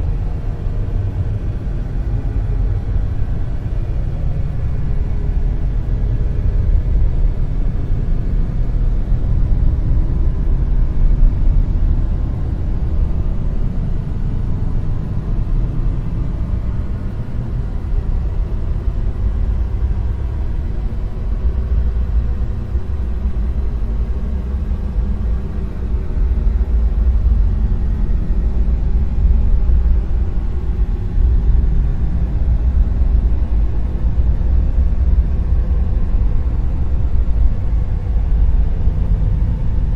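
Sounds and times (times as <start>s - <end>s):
deep rumbling noise: 0.0s - 39.9s.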